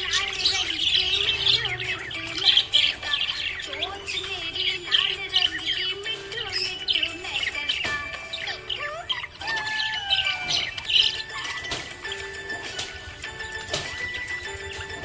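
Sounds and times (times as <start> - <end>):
parrots chirping and squawking: 0.0 - 15.0.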